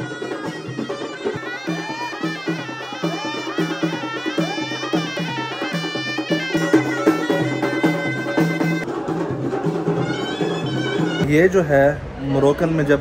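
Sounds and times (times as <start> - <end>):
frame drums and tambourines beating: 0.0 - 11.6
wind instrument melody: 0.0 - 12.6.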